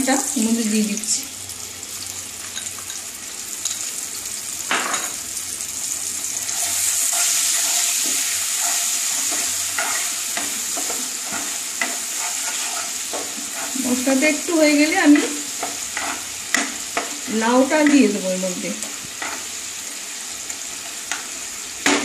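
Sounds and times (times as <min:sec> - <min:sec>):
spice paste sizzling in hot oil: 0:00.0 - 0:22.0.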